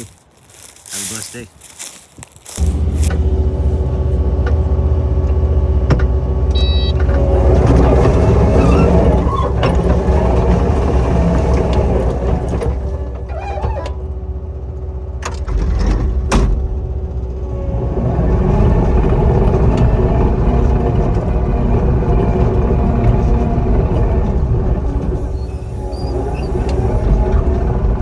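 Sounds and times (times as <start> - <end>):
skid steer engine drone: 0.0 - 28.0.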